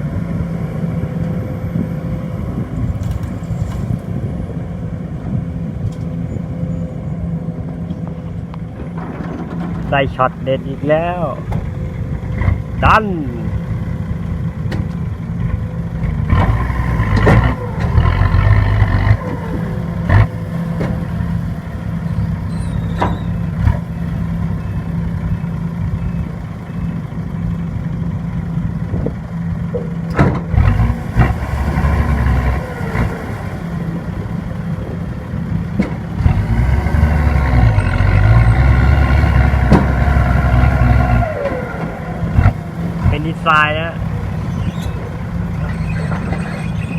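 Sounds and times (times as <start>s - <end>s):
excavator diesel engine under load: 0.0s - 46.9s.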